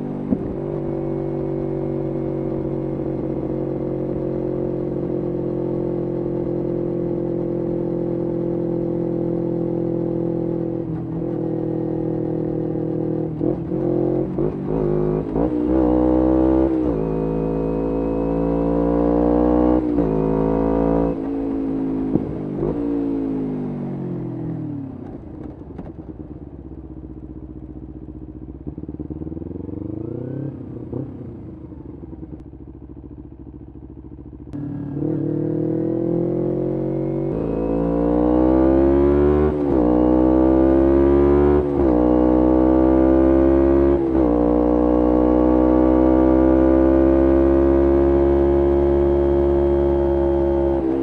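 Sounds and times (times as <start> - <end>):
motorcycle engine revving and accelerating: 0.0 - 26.5, 27.6 - 51.0.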